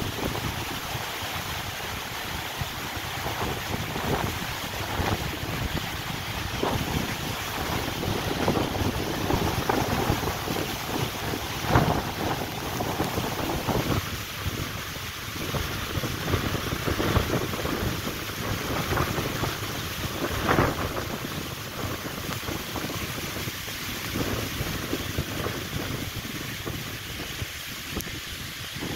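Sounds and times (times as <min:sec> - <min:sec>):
wind buffeting microphone: 0:00.0 - 0:28.9
wind gusting through trees: 0:00.0 - 0:28.9.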